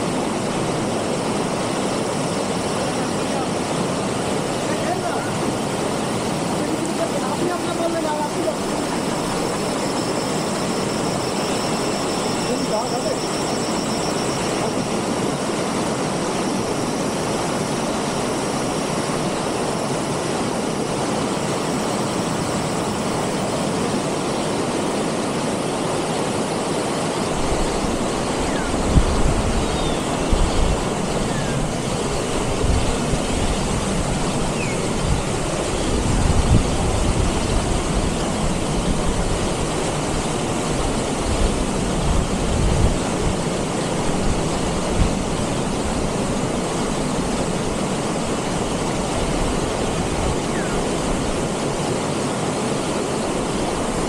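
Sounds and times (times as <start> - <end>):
stream rushing over boulders: 0.0 - 54.0.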